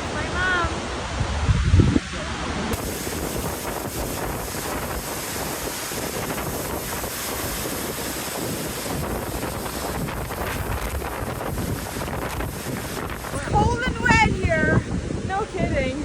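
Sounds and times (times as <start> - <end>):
waterfall roaring: 0.0 - 15.6
wind buffeting microphone: 0.0 - 16.0.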